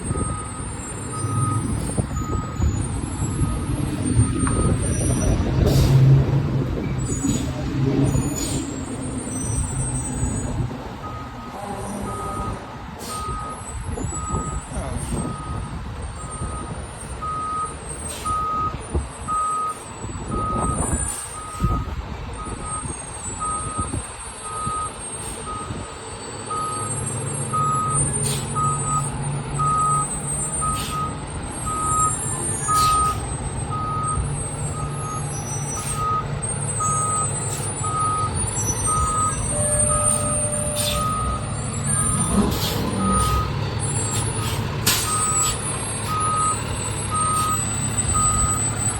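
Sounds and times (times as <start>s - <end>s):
reverse alarm beeping: 0.0s - 4.9s, 9.5s - 44.4s, 45.0s - 48.9s
diesel engine running: 0.0s - 48.9s.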